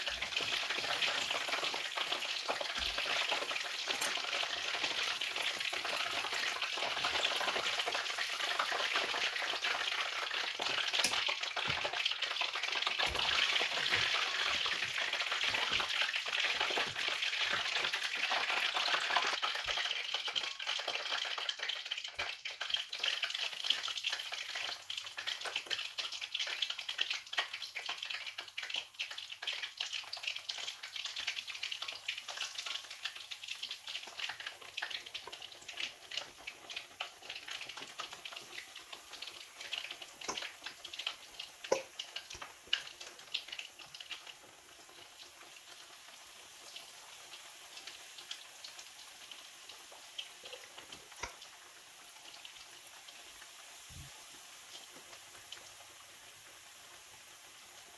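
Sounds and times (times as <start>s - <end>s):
chicken deep-frying in oil: 0.0s - 57.9s.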